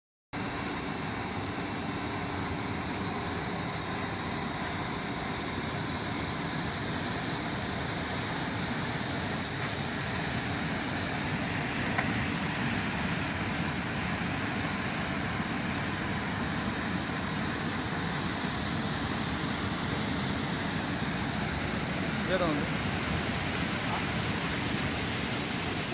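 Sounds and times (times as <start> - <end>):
air blower hum: 0.4 - 25.9
churning hiss of frothing water: 0.4 - 25.9.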